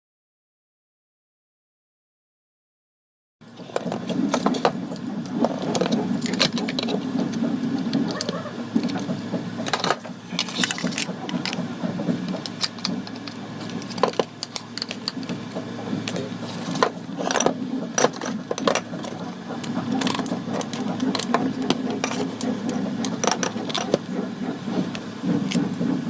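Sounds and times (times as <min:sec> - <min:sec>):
sharp clicks and rattles: 0:03.7 - 0:26.0
small motor running: 0:03.8 - 0:26.0.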